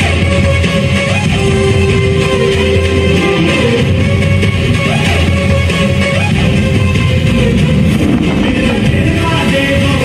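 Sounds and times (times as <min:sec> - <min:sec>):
loud music with sustained notes: 0:00.0 - 0:10.0.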